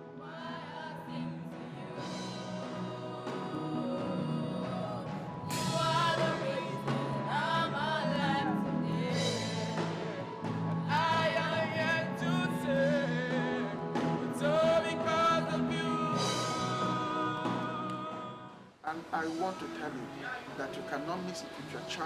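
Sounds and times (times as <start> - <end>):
gospel song singing: 0.0 - 22.0
sustained keyboard accompaniment: 0.0 - 22.0.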